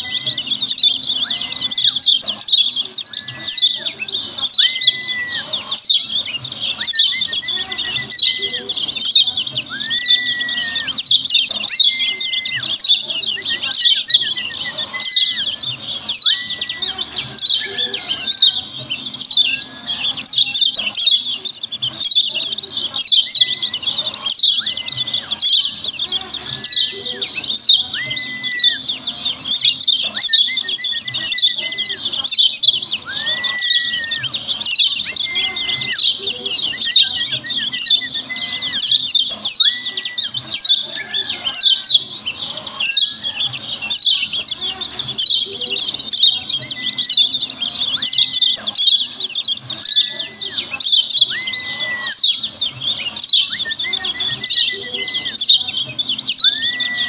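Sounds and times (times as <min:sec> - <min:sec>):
bird chirping rapidly: 0:00.0 - 0:57.0.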